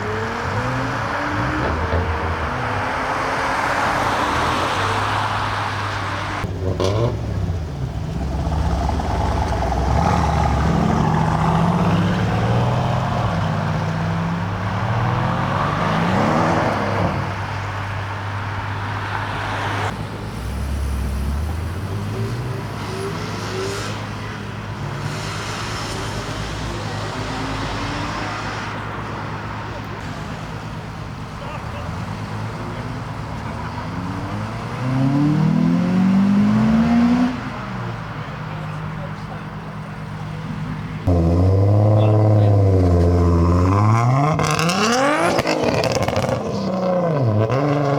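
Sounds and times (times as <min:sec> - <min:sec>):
car engines revving and accelerating: 0:00.0 - 0:47.9.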